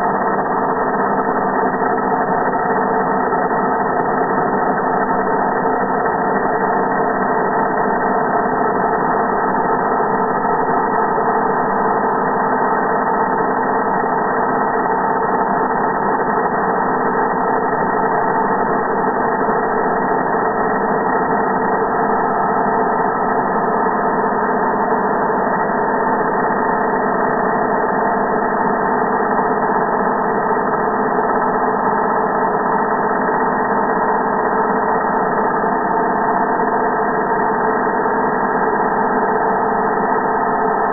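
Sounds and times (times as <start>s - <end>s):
slowed angle grinder drone: 0.0s - 40.9s.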